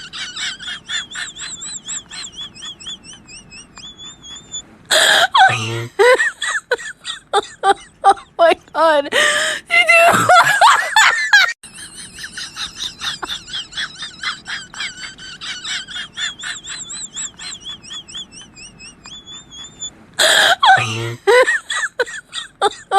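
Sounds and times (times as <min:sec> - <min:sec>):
loud shrill laugh: 0:00.0 - 0:08.2, 0:09.9 - 0:22.9
high-pitched giggling laugh: 0:00.0 - 0:09.1, 0:09.8 - 0:22.9.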